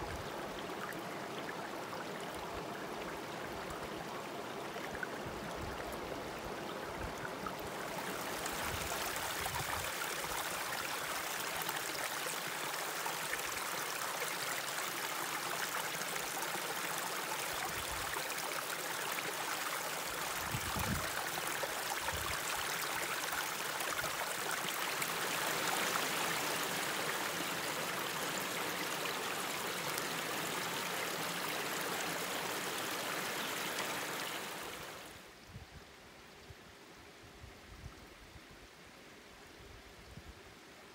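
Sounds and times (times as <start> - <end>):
mountain stream running: 0.0 - 35.3.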